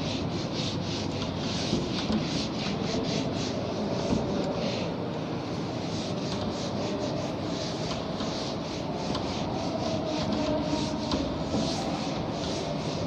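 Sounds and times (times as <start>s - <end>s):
duster wiping a whiteboard: 0.0s - 13.0s.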